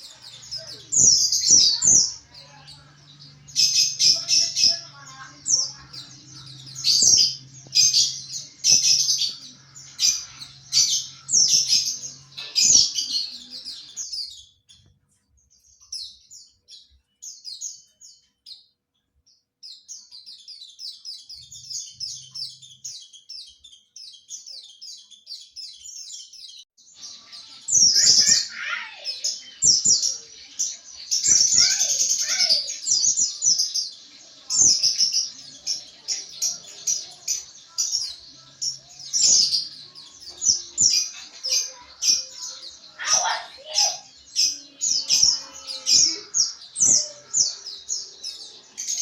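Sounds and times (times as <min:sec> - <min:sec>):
small bird chattering twitter: 0:00.0 - 0:15.0, 0:19.6 - 0:49.0.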